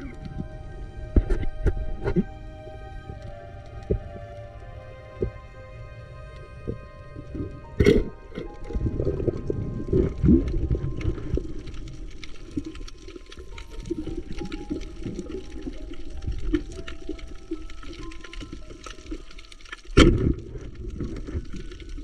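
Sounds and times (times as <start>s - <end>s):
music with slow held notes: 0.0s - 22.0s
water sloshing and bubbling: 0.0s - 22.0s.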